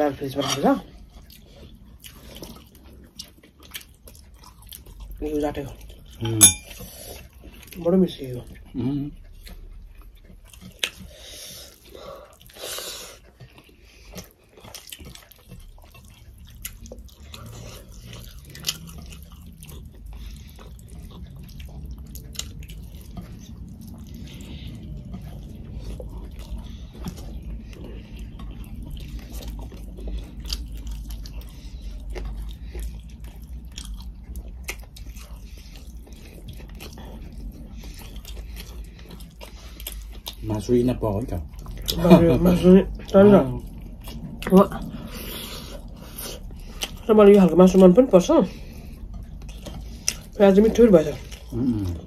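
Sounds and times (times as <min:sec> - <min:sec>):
chewing and lip smacks: 0:00.0 - 0:52.0
low steady hum: 0:00.0 - 0:52.0.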